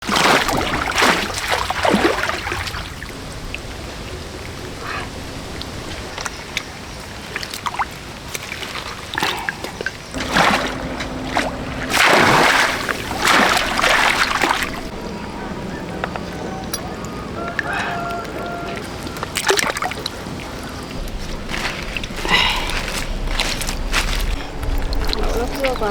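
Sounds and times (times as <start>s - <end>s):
water splashing and sloshing: 0.0s - 25.9s
water trickling: 0.2s - 15.7s, 18.1s - 25.9s.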